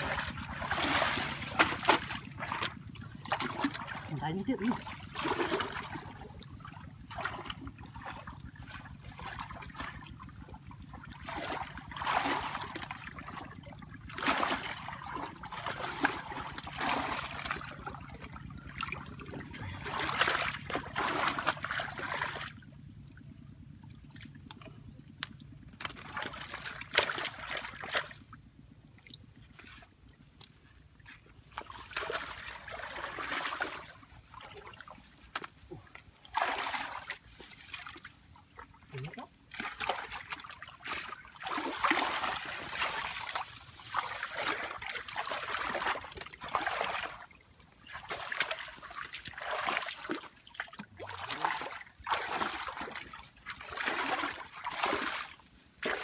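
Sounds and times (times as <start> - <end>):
splashing in muddy water: 0.0 - 56.0.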